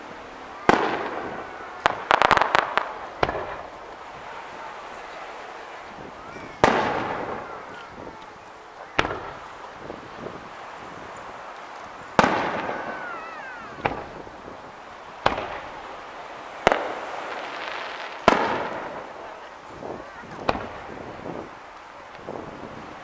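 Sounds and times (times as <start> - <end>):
firework whistling glide: 0.0 - 23.0
fireworks bangs with echoes: 0.0 - 23.0.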